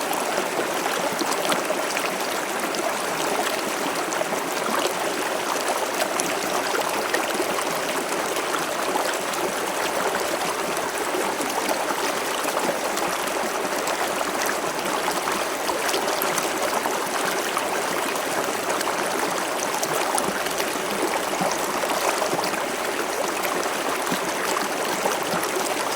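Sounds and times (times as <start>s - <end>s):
water trickling and gurgling: 0.0s - 25.9s.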